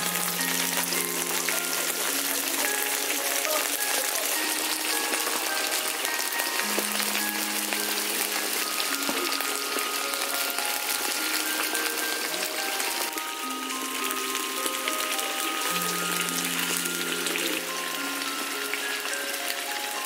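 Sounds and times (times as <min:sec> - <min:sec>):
food sizzling in a wok: 0:00.0 - 0:20.0
soft background music: 0:00.0 - 0:20.0.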